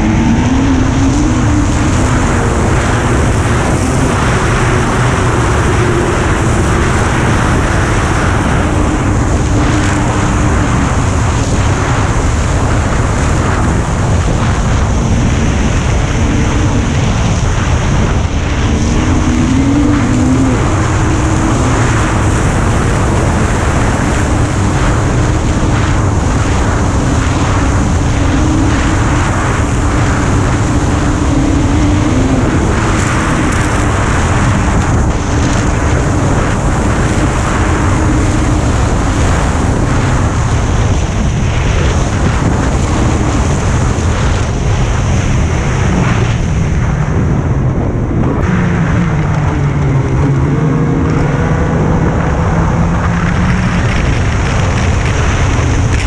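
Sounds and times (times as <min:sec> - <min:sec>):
snowmobile engine running: 0:00.0 - 0:56.0
wind rushing over microphone: 0:00.0 - 0:56.0.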